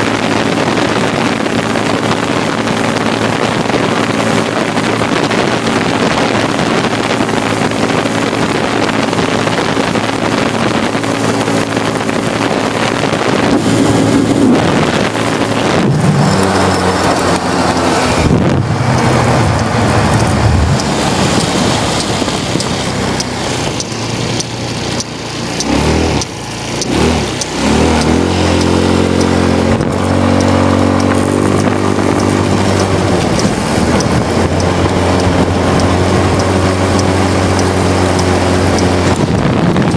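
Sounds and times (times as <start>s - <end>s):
broad rushing noise: 0.0s - 39.9s
small engine running: 0.0s - 39.9s.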